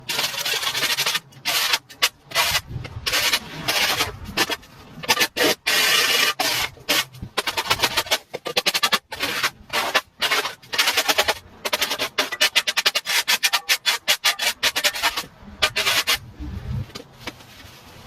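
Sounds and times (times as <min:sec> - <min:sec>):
scraping strokes: 0:00.0 - 0:18.0.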